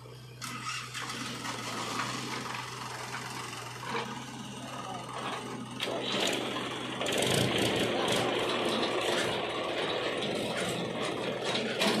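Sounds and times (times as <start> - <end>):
tractor diesel engine running: 0.0 - 12.0
rattling mechanical clatter: 0.6 - 12.0.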